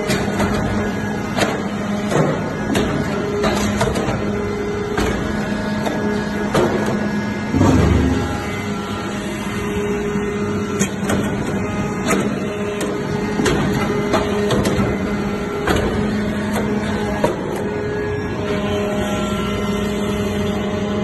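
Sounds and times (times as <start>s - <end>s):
hydraulic pump humming: 0.0s - 21.0s.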